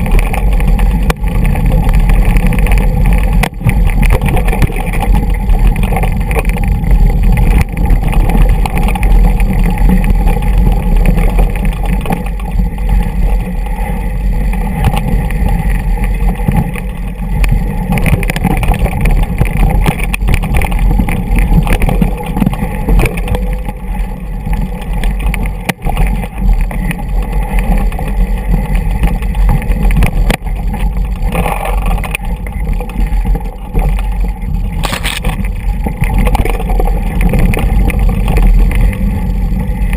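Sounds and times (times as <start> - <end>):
bike knocks and rattles: 0.0 - 39.9
wind and ride noise: 0.0 - 39.9.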